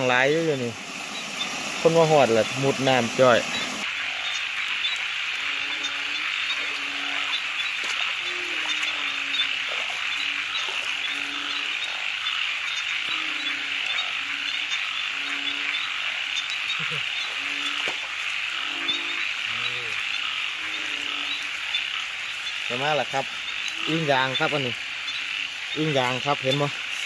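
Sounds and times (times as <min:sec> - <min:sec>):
frogs croaking: 0:00.0 - 0:27.0
high-pitched frog chorus: 0:00.0 - 0:27.0.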